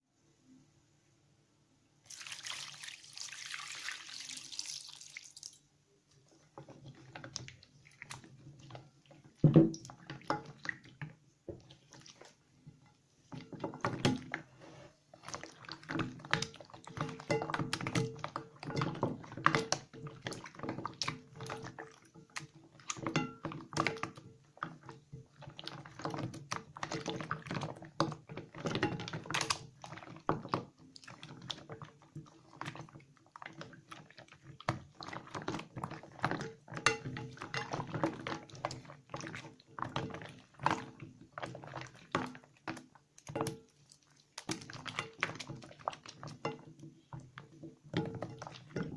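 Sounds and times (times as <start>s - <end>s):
soap squishing in wet hands: 2.1s - 48.9s.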